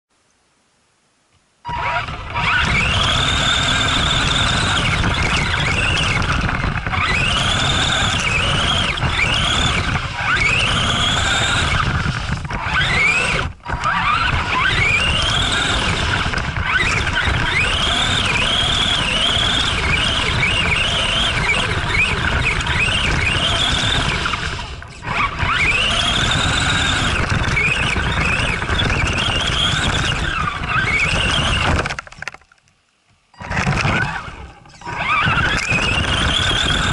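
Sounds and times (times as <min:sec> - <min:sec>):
tyres rumbling on snow: 0:01.6 - 0:32.4, 0:33.4 - 0:36.9
electric motor whining: 0:01.7 - 0:32.4, 0:33.4 - 0:36.9.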